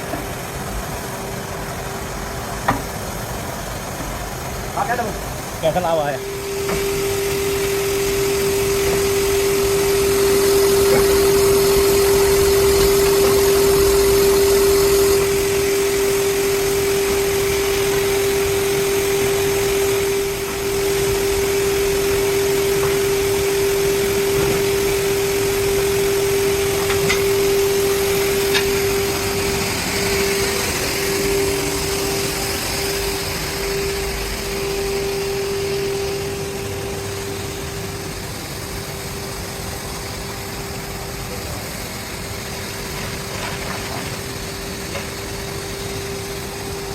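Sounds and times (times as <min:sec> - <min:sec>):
broad rushing noise: 0:00.0 - 0:46.9
machinery humming: 0:00.0 - 0:46.9.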